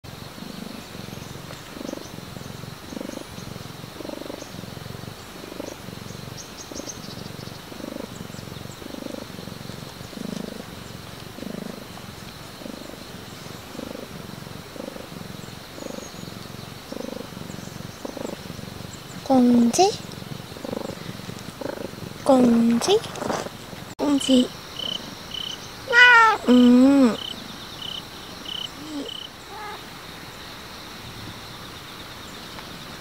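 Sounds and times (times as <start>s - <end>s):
cat purring: 0.4s - 29.9s.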